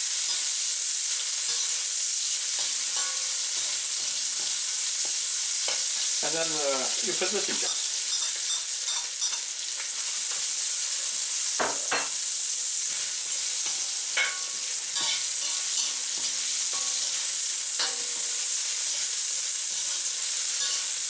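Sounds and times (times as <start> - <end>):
spatula scraping wok: 0.0 - 21.0
vegetables sizzling in oil: 0.0 - 21.0.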